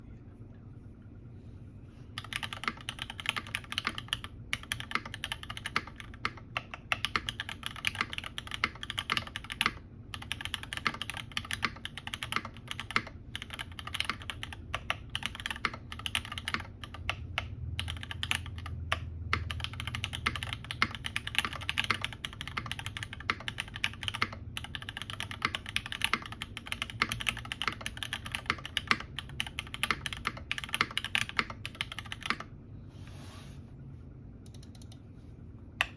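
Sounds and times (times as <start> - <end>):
fast typing on mechanical keyboard: 2.2 - 32.5.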